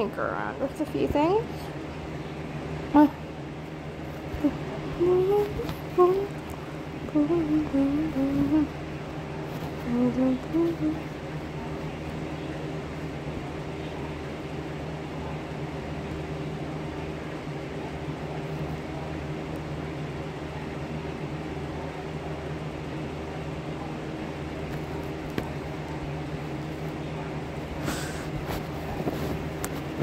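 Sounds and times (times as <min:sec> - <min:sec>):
electric fan whirring: 0:00.0 - 0:30.0.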